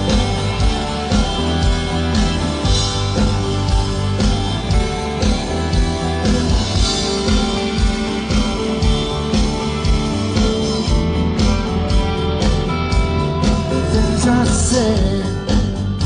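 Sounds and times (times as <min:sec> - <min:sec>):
drum beat: 0:00.0 - 0:15.8
electric guitar: 0:00.0 - 0:16.0.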